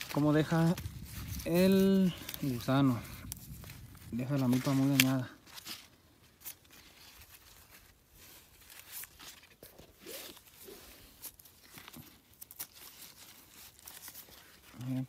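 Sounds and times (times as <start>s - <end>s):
corn leaves rustling: 0.0s - 15.0s.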